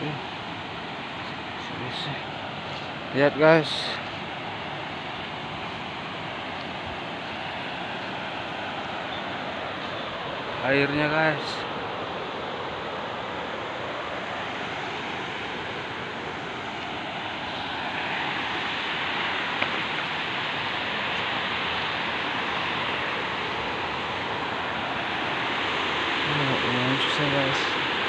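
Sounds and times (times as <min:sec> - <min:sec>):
river rushing over rapids: 0:00.0 - 0:28.0.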